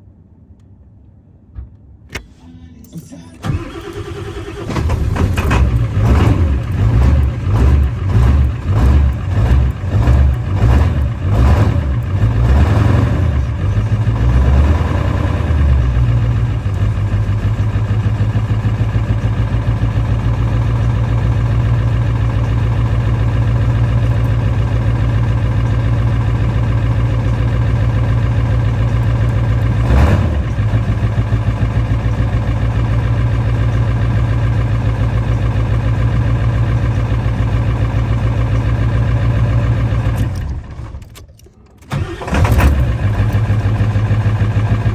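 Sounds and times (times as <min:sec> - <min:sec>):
engine cranking and starting: 0:02.2 - 0:34.7, 0:36.3 - 0:44.9
diesel engine idling: 0:02.3 - 0:41.0, 0:41.9 - 0:44.9.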